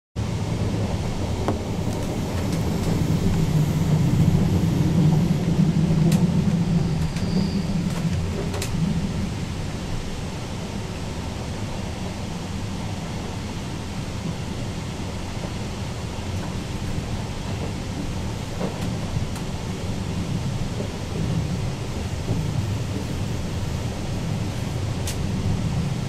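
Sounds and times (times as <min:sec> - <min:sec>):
train wheels rumbling on rails: 0:00.2 - 0:26.0.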